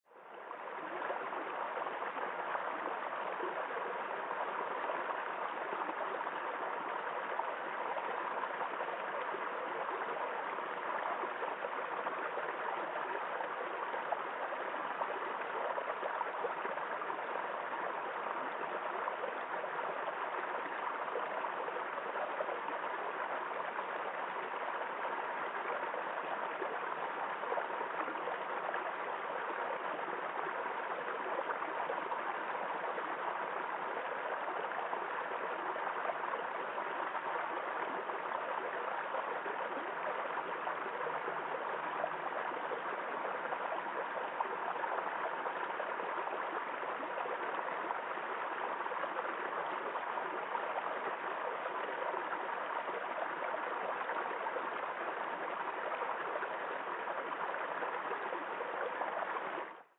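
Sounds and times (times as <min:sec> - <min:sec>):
stream rushing over stones: 0:00.2 - 0:59.9.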